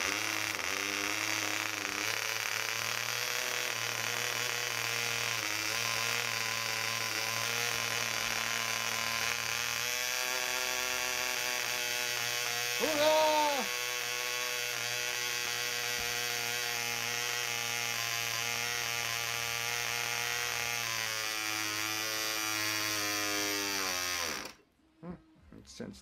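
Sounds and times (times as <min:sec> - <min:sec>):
model engine whining: 0:00.0 - 0:24.6.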